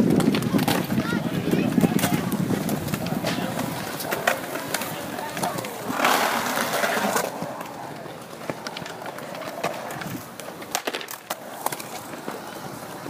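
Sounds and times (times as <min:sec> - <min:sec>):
faint voices: 0:00.0 - 0:10.7
skateboard clacks and knocks: 0:00.0 - 0:13.0
skateboard wheels rolling on concrete: 0:00.0 - 0:13.0.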